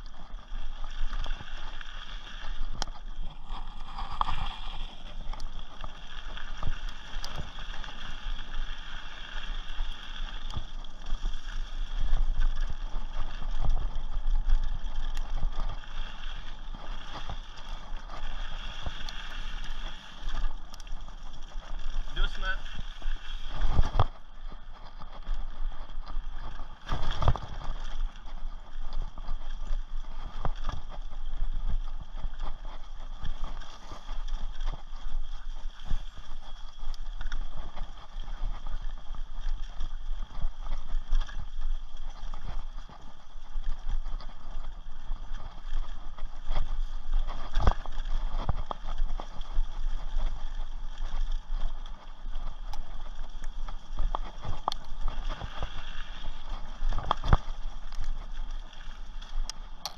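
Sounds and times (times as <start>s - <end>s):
bike rattling over bumpy trail: 0.0s - 59.9s.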